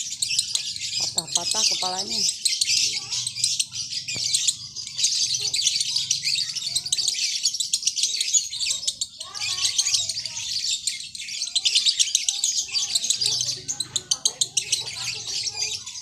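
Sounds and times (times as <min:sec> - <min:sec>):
bird chattering song: 0:00.0 - 0:16.0.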